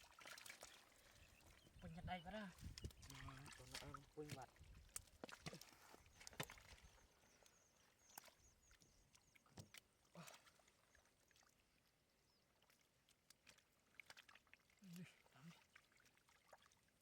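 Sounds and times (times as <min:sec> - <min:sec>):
water splashes: 0:00.0 - 0:07.4, 0:08.0 - 0:11.8, 0:12.5 - 0:17.0.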